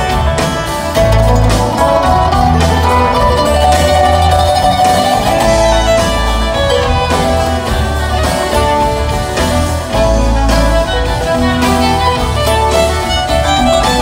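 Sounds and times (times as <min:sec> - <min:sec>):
banjo: 0:00.0 - 0:14.0
bass line: 0:00.0 - 0:14.0
drums: 0:00.0 - 0:14.0
fiddle melody: 0:00.0 - 0:14.0
strummed acoustic guitar: 0:00.0 - 0:14.0.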